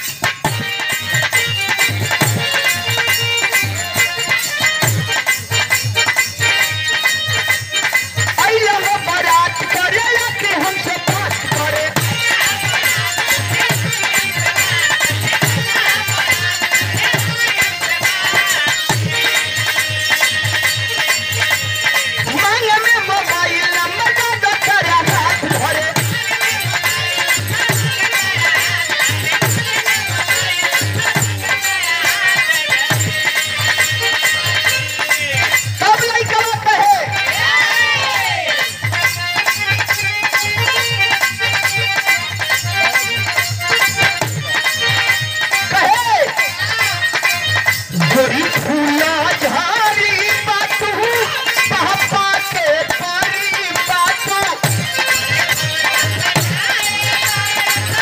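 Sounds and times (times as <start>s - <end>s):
harmonium melody: 0.0s - 58.0s
jingling hand percussion: 0.0s - 58.0s.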